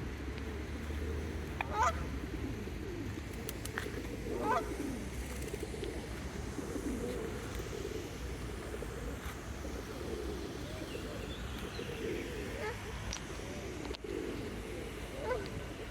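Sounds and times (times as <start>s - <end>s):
low wavering bird coos: 0.5s - 15.9s.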